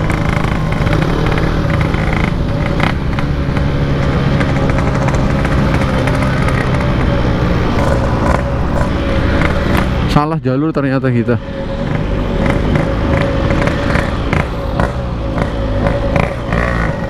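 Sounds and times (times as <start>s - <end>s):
motorcycle engine running: 0.0s - 10.2s, 11.4s - 17.0s.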